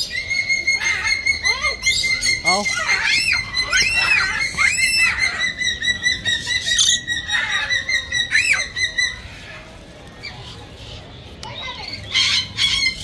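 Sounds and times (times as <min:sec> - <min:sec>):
parrots piercing calls: 0:00.0 - 0:10.5, 0:11.5 - 0:13.0
shrill parrot chorus: 0:00.0 - 0:10.5, 0:11.5 - 0:13.0.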